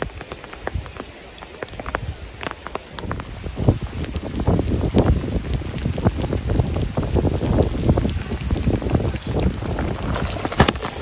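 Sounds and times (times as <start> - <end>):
heavy rain downpour: 0.0 - 11.0.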